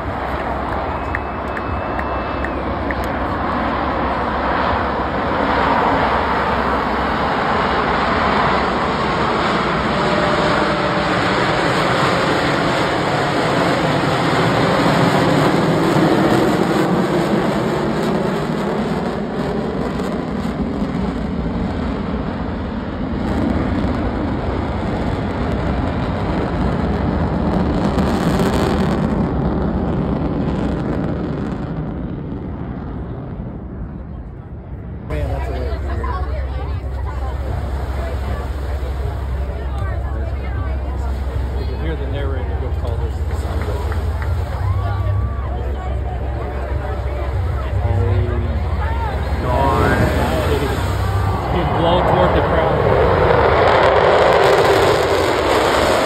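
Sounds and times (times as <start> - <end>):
jet engines roaring overhead: 0.0 - 56.0.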